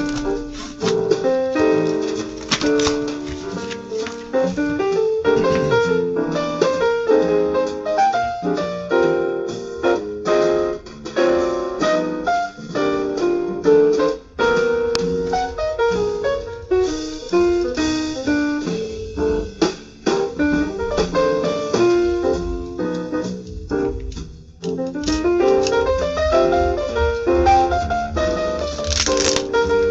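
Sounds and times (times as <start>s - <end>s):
piano jazz music: 0.0s - 29.9s.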